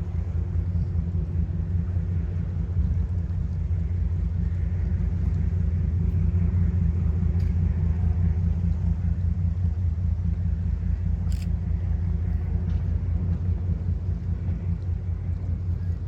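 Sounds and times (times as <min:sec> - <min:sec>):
ship engine rumble: 0:00.0 - 0:16.0.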